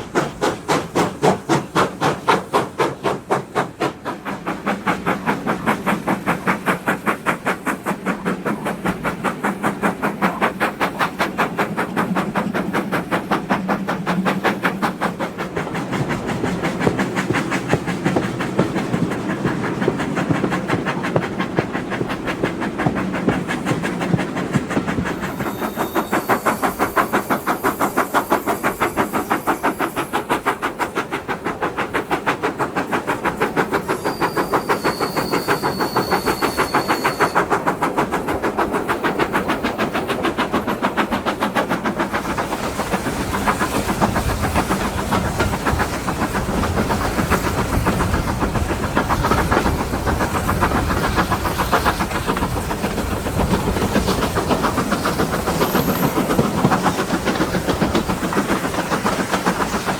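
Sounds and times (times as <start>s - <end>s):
steam locomotive exhaust beat: 0.0s - 59.9s
wheels running on rails: 0.0s - 59.9s.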